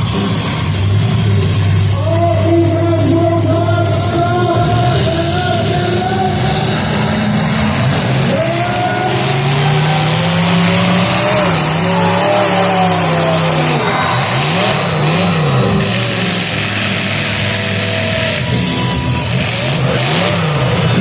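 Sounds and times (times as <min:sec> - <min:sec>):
car engines revving: 0:00.0 - 0:21.0
din of engine and tyre noise: 0:00.0 - 0:21.0.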